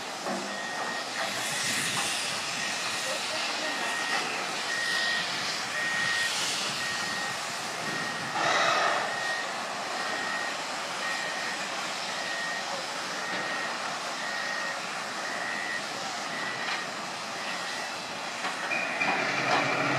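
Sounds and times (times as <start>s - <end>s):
constant rushing noise: 0.0s - 19.9s
reversing alarm beeping: 0.2s - 19.9s.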